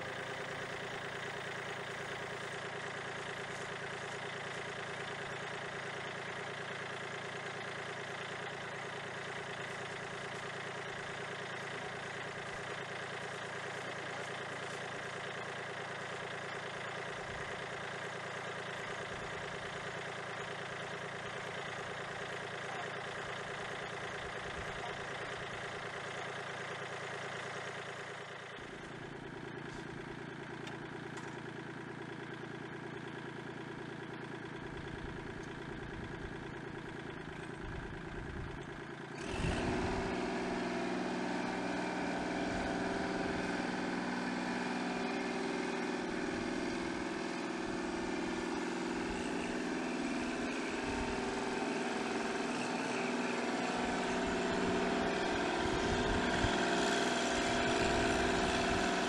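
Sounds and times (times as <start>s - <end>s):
tractor diesel engine idling: 0.0s - 59.0s.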